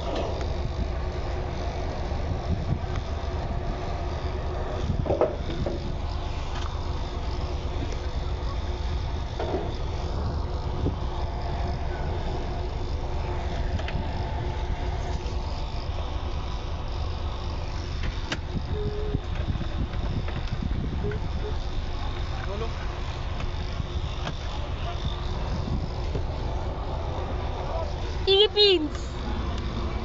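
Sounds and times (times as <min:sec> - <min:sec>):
low rumble: 0:00.0 - 0:28.2.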